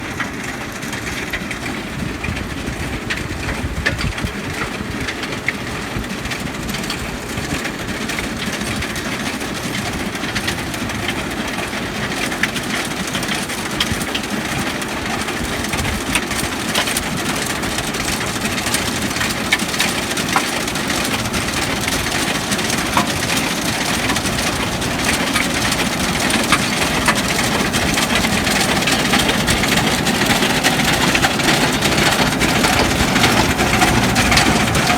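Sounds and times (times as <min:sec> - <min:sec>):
tractor engine drone: 0:00.0 - 0:34.9.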